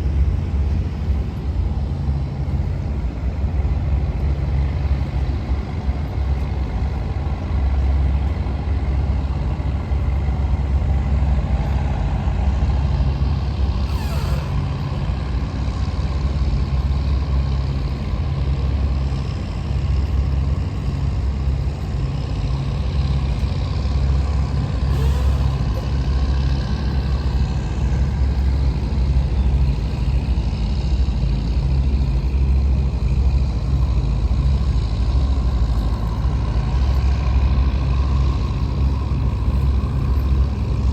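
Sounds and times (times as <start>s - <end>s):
diesel engine low rumble: 0.0s - 40.9s.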